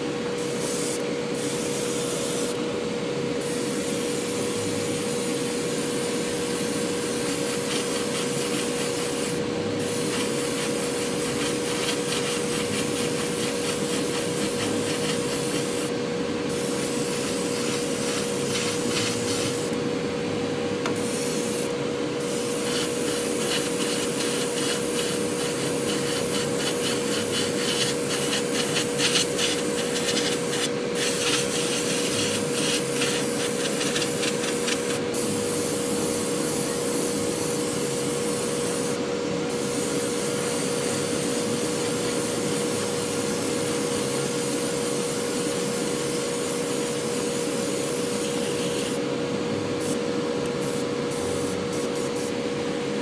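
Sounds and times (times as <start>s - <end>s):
airbrush hissing: 3.5s - 15.9s, 16.5s - 19.8s, 21.0s - 49.0s.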